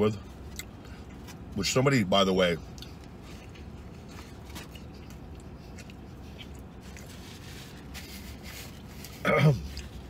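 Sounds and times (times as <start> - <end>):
low steady hum: 0.0 - 10.0
man chewing: 0.2 - 1.5, 2.6 - 10.0.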